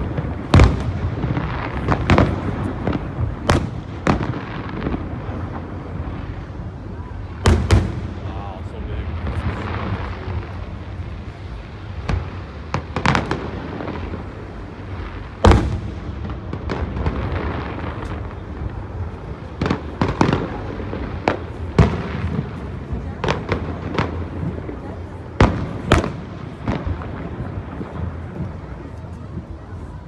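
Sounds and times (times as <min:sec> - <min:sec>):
fireworks bangs: 0:00.0 - 0:29.8
fireworks crackling: 0:00.0 - 0:30.0.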